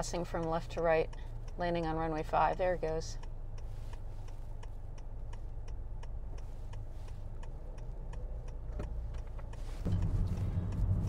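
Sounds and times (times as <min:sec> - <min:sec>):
road and engine hum: 0:00.0 - 0:11.0
turn signal clicking: 0:00.0 - 0:11.0.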